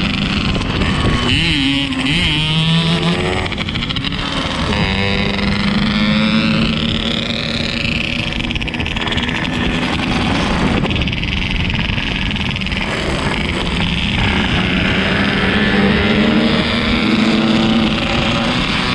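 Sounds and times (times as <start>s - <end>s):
motorcycle engine droning: 0.0s - 18.9s.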